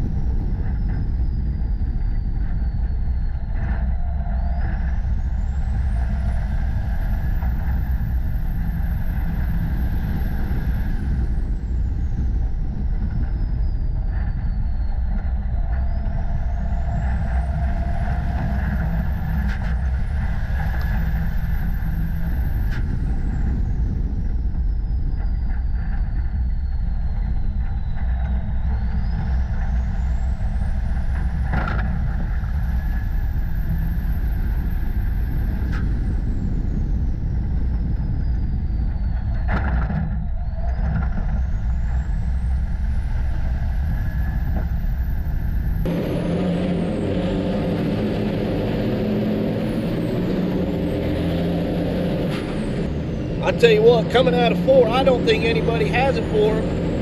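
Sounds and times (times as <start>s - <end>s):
diesel truck engine running hard: 0.0s - 57.0s.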